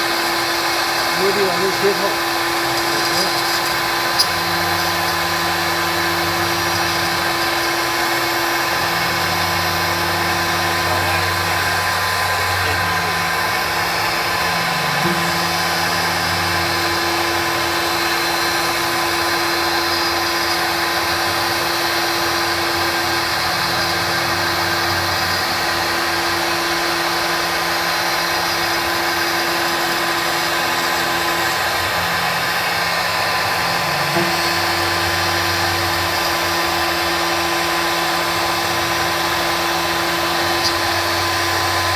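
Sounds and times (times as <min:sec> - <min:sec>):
axis motors humming: 0:00.0 - 0:41.9
router spindle whine: 0:00.0 - 0:41.9.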